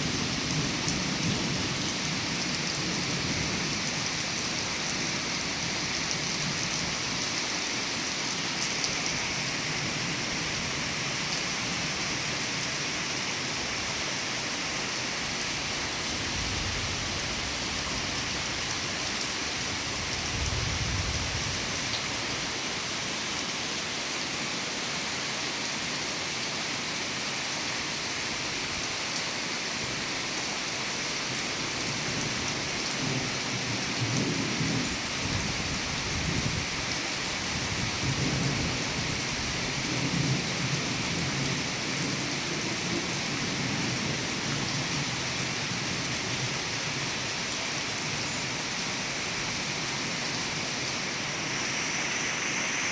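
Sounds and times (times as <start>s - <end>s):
rain pattering: 0.0s - 23.9s, 31.2s - 52.9s.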